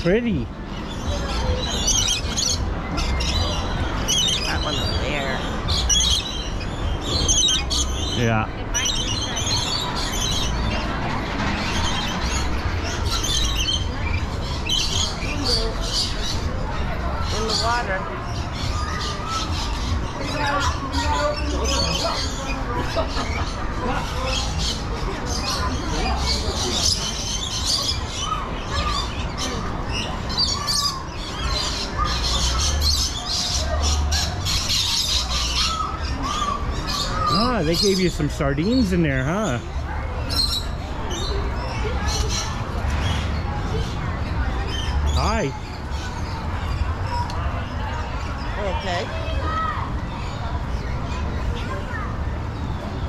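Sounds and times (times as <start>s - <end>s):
flock of lorikeets chirping: 0.0s - 53.0s.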